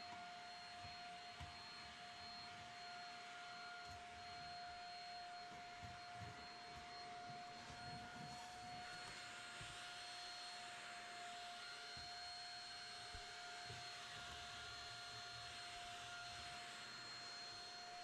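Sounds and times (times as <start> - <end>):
thin high whine: 0.0 - 18.0.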